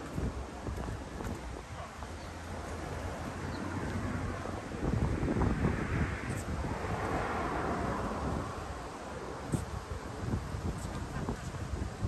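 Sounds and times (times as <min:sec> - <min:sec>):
distant traffic rush: 0:00.0 - 0:12.0
wind rumbling on microphone: 0:00.0 - 0:12.0.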